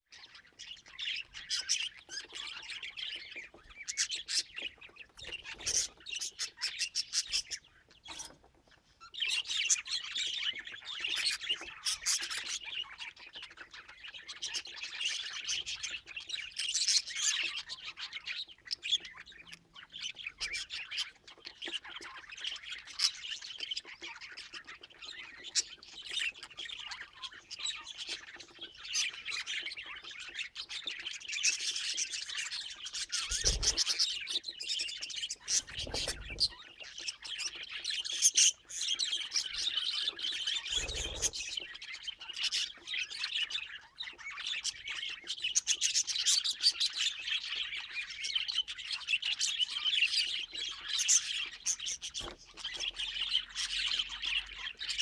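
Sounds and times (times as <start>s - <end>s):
budgerigars chattering: 0.1s - 8.4s, 9.0s - 55.0s.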